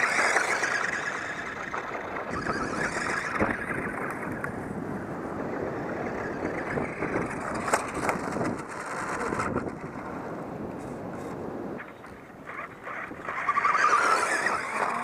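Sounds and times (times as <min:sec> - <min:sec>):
rc car motor and tyres: 0:00.0 - 0:15.0.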